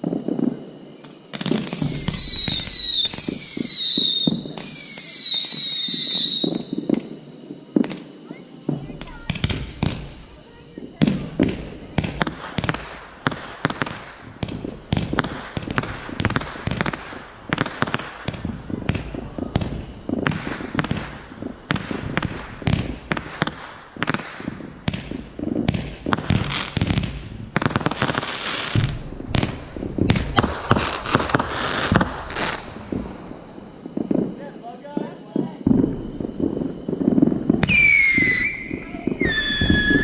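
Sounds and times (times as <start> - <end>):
fireworks bangs and pops: 0.0 - 40.0
fireworks crackling: 0.0 - 40.0.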